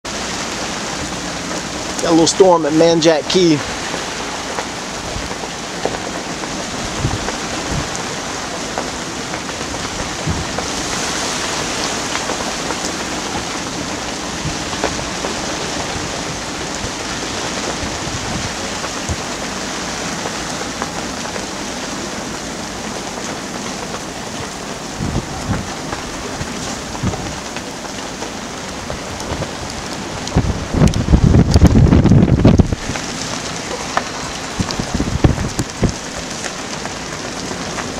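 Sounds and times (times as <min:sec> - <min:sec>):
wind and rain hiss: 0:00.1 - 0:37.9
wind gusts buffeting microphone: 0:00.1 - 0:37.9.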